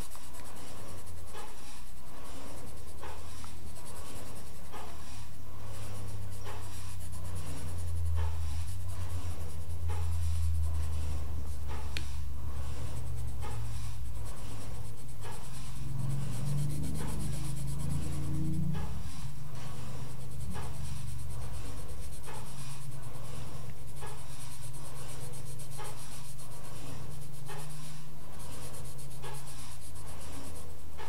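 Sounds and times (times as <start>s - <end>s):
pencil scratching on paper: 0.0s - 31.0s
steady low hum: 0.0s - 31.0s.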